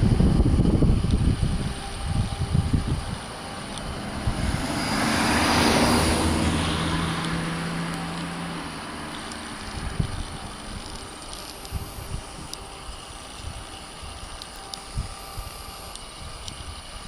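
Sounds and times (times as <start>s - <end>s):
electric train passing: 0.0s - 17.0s
steady low hum: 0.0s - 17.0s.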